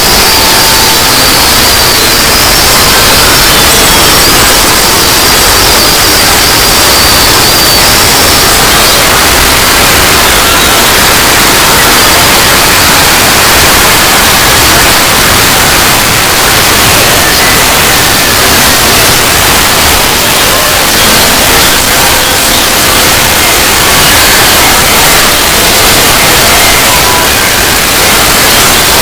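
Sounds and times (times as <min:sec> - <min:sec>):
faint pitched tones: 0:00.0 - 0:29.0
harsh static noise: 0:00.0 - 0:29.0.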